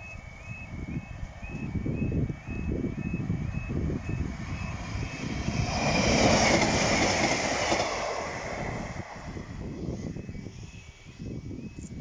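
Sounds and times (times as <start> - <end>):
train passing at speed: 0.0 - 11.8
level crossing warning alarm: 0.0 - 12.0.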